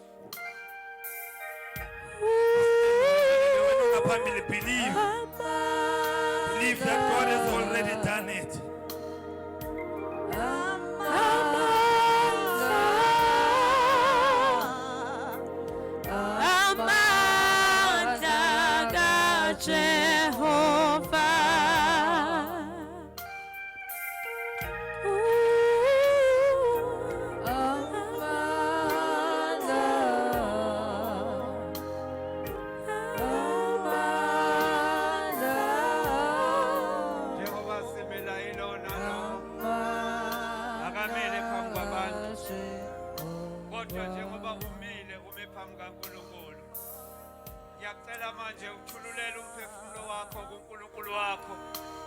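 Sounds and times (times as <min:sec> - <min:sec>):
sustained musical accompaniment: 0:00.0 - 0:52.0
person singing with vibrato: 0:01.3 - 0:52.0.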